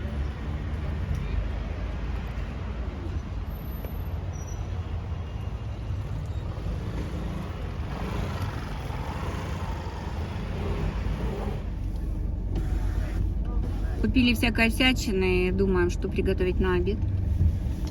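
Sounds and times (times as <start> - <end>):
road traffic rumble: 0.0 - 17.9.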